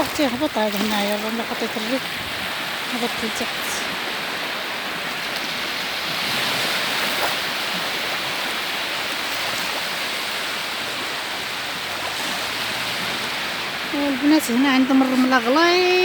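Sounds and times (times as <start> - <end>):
sea surf washing onto beach: 0.0 - 16.0.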